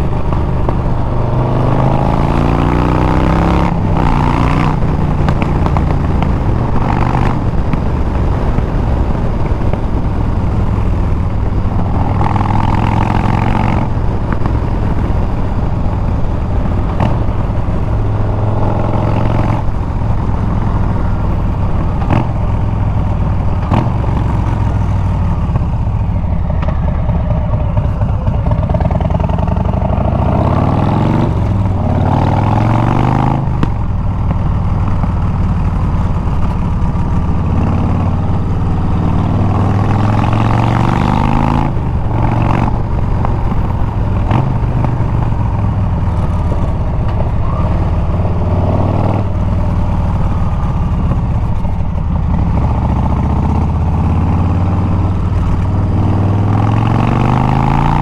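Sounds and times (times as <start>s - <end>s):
motorcycle engine revving while riding: 0.0s - 58.0s.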